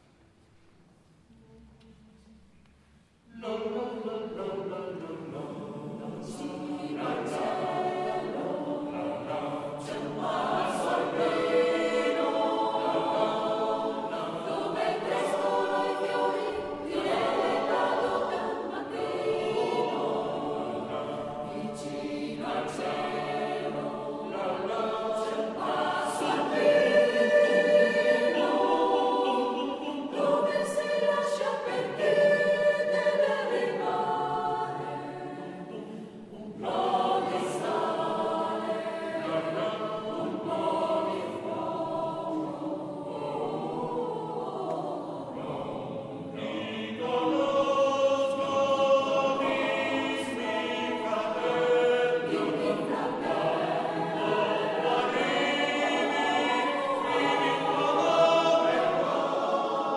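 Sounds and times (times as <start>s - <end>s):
choir singing in parts: 3.2s - 59.9s.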